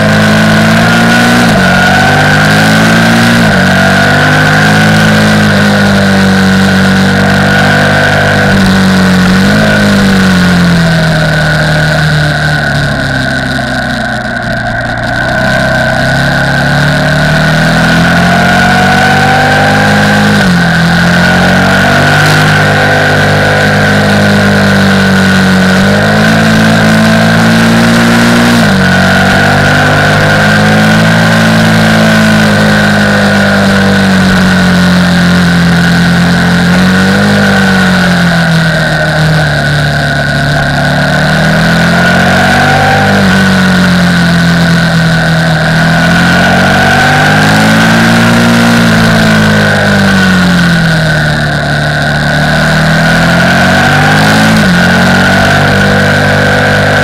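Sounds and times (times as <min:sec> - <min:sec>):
motorcycle engine revving: 0:00.0 - 0:57.0
steady high whine: 0:00.0 - 0:57.0.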